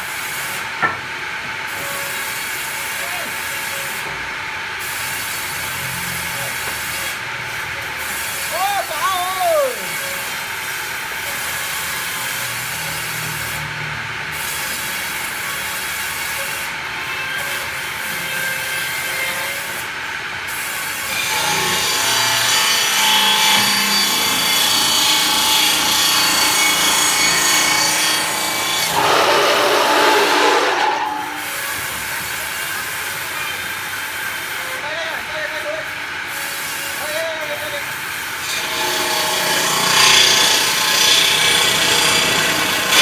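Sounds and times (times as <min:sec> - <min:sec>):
saw cutting through wood: 0:04.8 - 0:34.9, 0:35.6 - 0:43.0.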